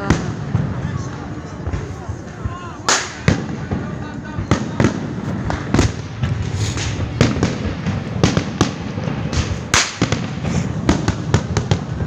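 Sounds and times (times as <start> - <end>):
fireworks bangs and pops: 0.0 - 12.0
rumble of distant explosions: 0.0 - 12.0.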